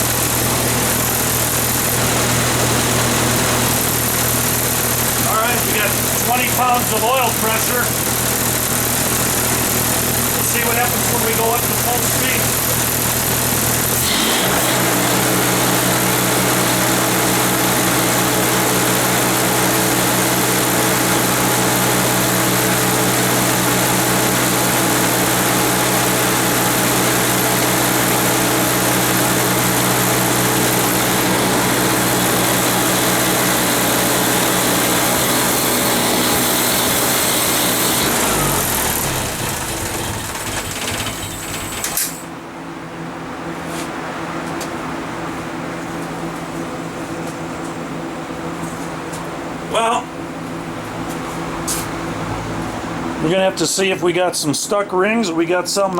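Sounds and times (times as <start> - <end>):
generator engine running: 0.0 - 55.9.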